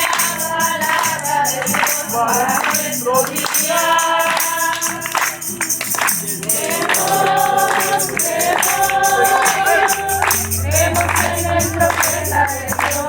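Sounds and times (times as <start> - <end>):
choir singing gospel: 0.0 - 13.0
percussion steady beat: 0.0 - 13.0.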